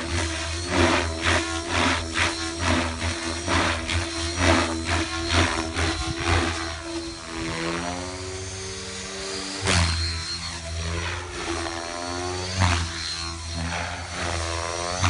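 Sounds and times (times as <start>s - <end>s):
rc helicopter motor whine: 0.0s - 15.0s
rotor whooshing surges: 0.0s - 15.0s.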